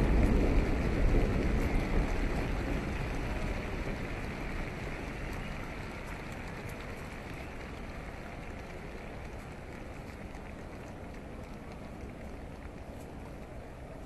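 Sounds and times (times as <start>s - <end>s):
faint crackles: 0.0s - 14.0s
fireworks rumble: 0.0s - 14.0s.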